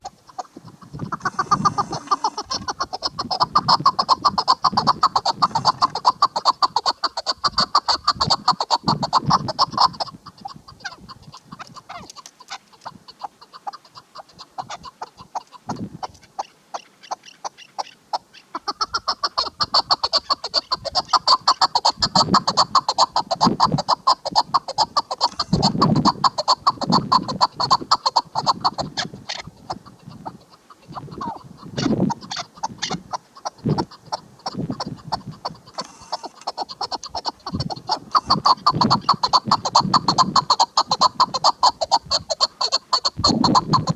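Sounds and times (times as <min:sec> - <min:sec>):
partridge clucking calls: 0:00.0 - 0:43.9.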